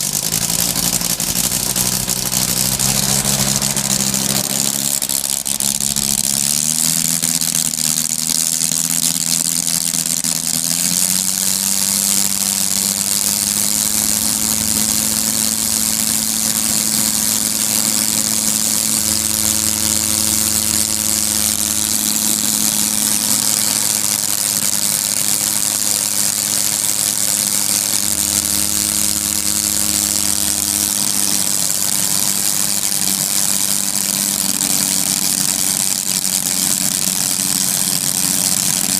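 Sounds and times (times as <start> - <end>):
rotary engine running: 0.0 - 38.9
strong hiss: 0.0 - 38.9.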